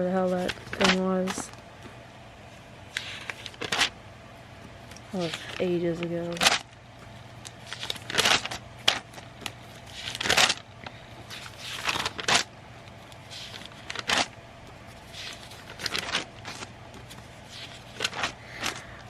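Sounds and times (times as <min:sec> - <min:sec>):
paper rustling: 0:00.1 - 0:01.6, 0:02.9 - 0:03.9, 0:04.6 - 0:19.0.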